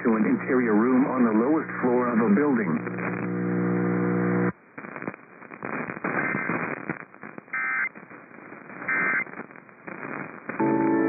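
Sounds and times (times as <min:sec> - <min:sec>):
radio hiss and crackle: 0:00.0 - 0:10.6.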